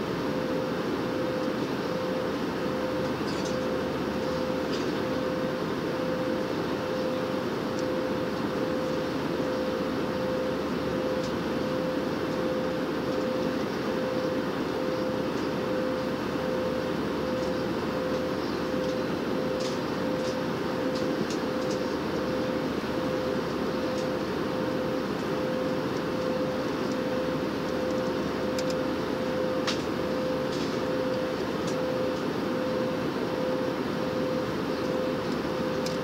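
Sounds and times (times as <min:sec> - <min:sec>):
jet engine and airflow roar: 0:00.0 - 0:36.0
mid-pitched hum: 0:00.0 - 0:36.0.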